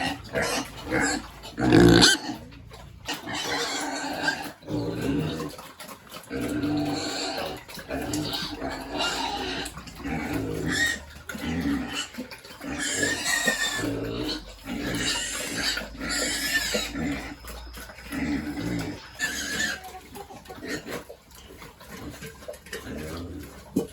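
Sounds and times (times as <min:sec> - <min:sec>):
pigs grunting: 0:00.0 - 0:23.9.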